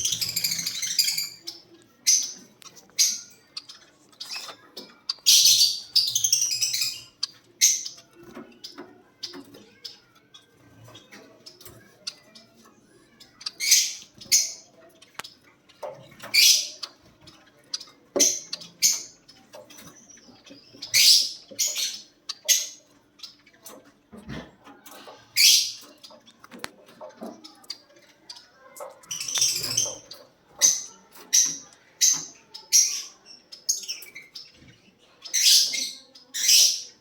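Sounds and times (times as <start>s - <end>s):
lovebirds chirping: 0.0s - 37.0s.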